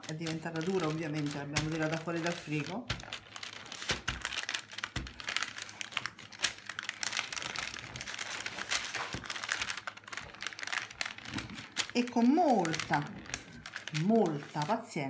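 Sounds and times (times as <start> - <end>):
parchment paper crinkling: 0.0 - 15.0.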